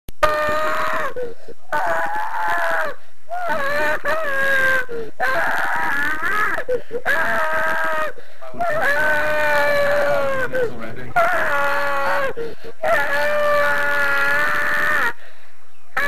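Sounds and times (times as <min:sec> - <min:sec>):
young child screaming: 0:00.2 - 0:15.2.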